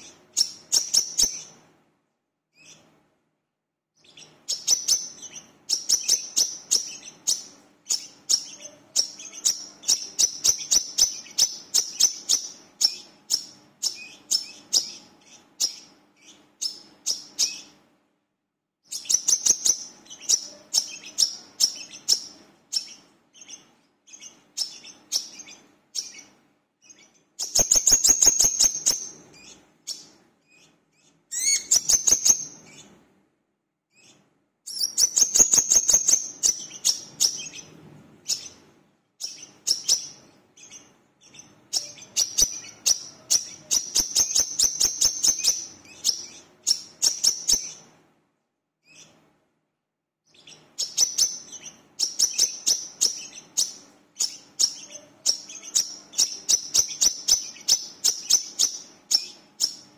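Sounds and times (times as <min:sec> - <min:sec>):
sunbird chirping: 0:00.0 - 0:01.6, 0:04.0 - 0:17.8, 0:18.8 - 0:33.0, 0:33.9 - 0:47.9, 0:50.3 - 0:59.9.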